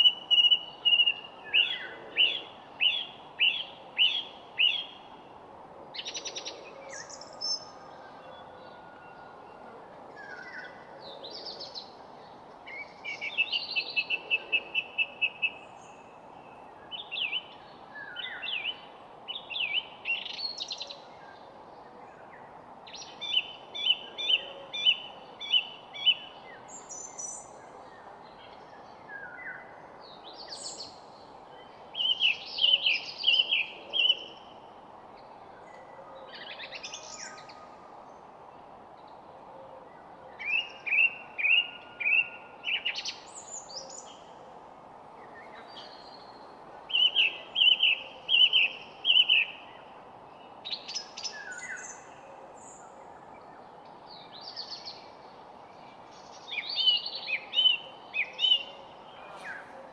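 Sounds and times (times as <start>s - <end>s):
low background hiss: 0.0s - 59.9s
songbirds singing: 0.0s - 59.9s.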